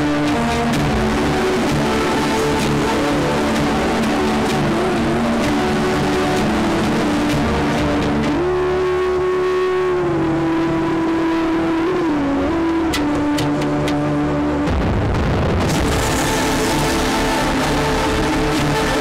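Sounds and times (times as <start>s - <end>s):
held instrumental notes: 0.0s - 19.0s
steady low drone: 0.0s - 19.0s.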